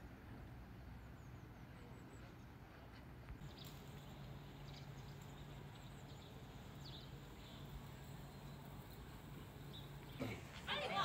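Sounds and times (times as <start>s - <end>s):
background noise: 0.0s - 11.0s.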